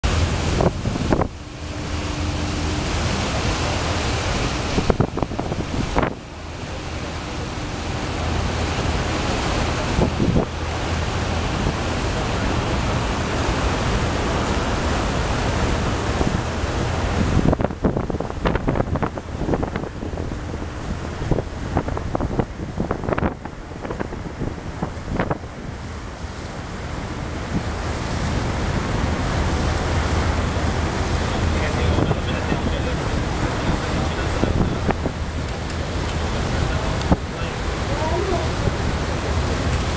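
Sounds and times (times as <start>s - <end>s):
choppy sea water: 0.0s - 39.9s
wind buffeting microphone: 0.0s - 39.9s.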